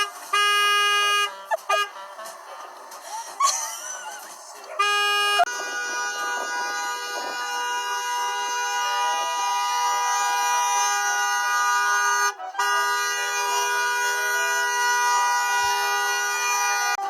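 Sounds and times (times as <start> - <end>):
car horn sounding continuously: 0.0 - 17.0.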